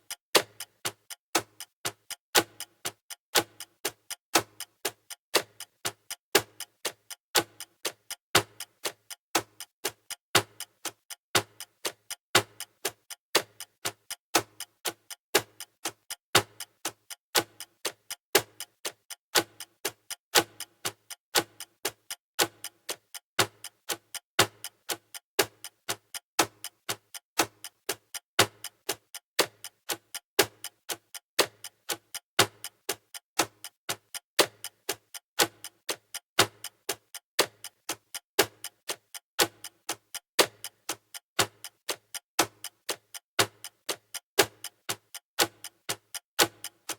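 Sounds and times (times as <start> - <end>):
countdown timer ticking: 0.0 - 46.9.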